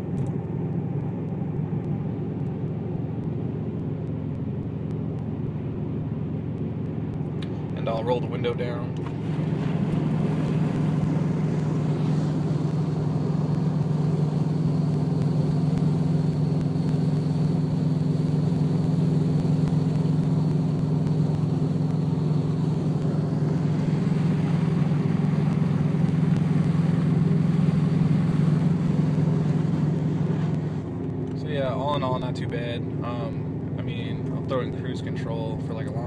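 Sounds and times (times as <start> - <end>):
car exhaust drone: 0.0 - 36.0.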